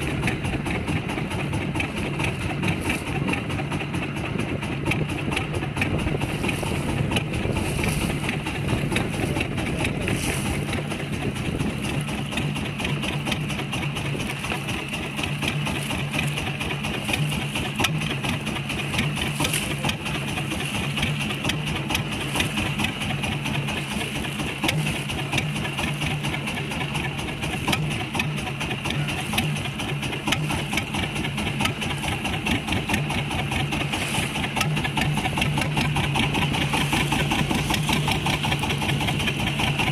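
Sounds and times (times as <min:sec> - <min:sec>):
boat engine pulsing hum: 0:00.0 - 0:39.9.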